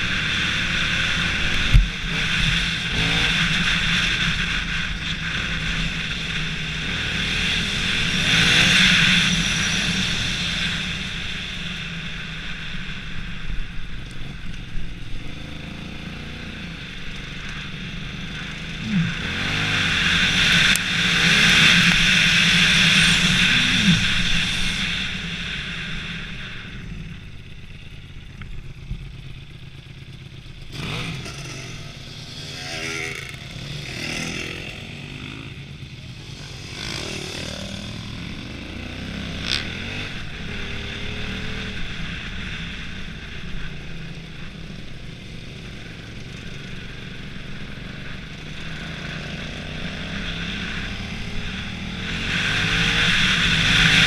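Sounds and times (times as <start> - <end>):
dirt bike engine revving: 0.0 - 13.2, 14.9 - 26.8, 30.6 - 54.0.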